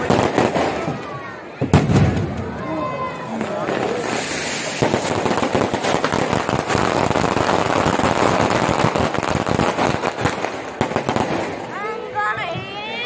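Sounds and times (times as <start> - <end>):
firecrackers popping: 0.0 - 12.1.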